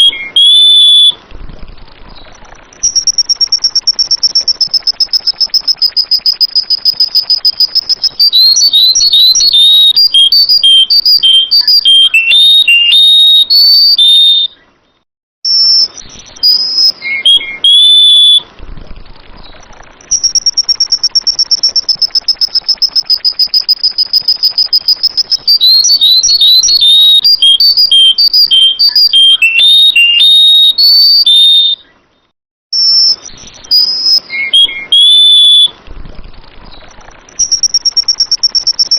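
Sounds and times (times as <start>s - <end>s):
bulbul singing: 0.0s - 1.2s, 2.1s - 14.7s, 15.5s - 18.5s, 19.4s - 32.0s, 32.8s - 35.8s, 36.6s - 38.9s.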